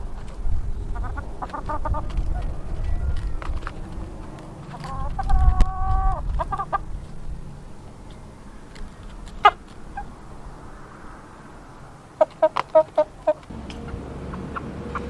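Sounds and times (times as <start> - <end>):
chickens clucking: 0.0 - 11.4, 12.1 - 15.0
chicken squawk: 0.9 - 10.4, 12.2 - 15.0
chicken drawn-out call: 0.9 - 15.0.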